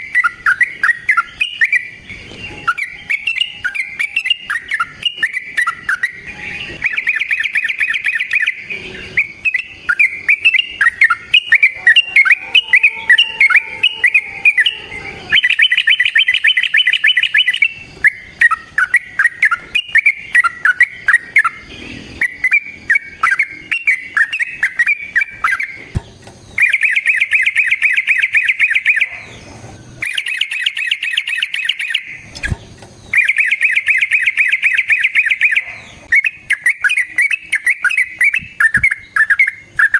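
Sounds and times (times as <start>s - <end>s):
bird rapid trills: 0.0s - 39.9s.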